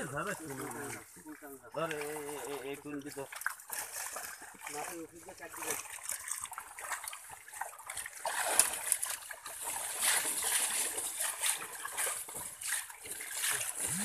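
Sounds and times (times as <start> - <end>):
muddy water splashing in net: 0.0 - 14.0.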